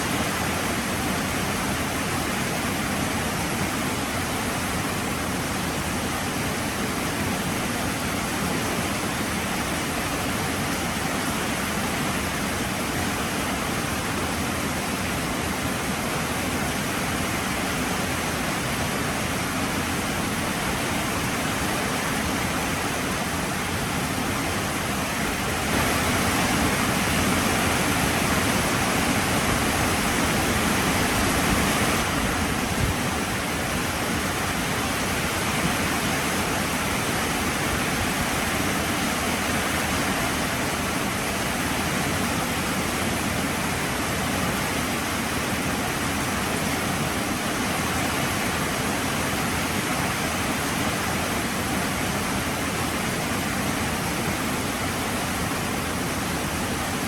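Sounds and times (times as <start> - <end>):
heavy rain falling: 0.0 - 54.2.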